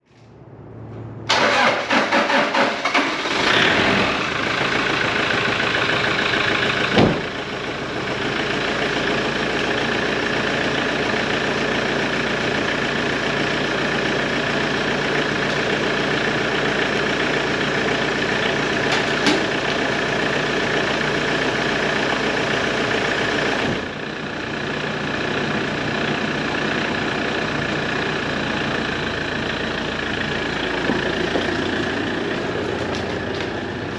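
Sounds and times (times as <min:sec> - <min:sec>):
engine cranking and idling: 0:01.3 - 0:33.9.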